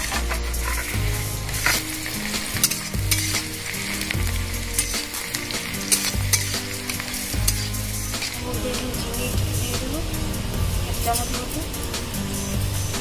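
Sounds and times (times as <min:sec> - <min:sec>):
food sizzling in oil: 0:00.0 - 0:13.0
sharp crackles: 0:00.0 - 0:13.0.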